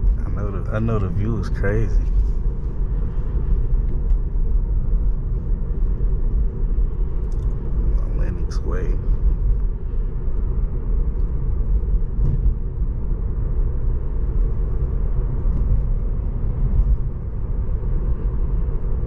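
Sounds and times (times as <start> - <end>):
road rumble and tyre noise: 0.0 - 19.0.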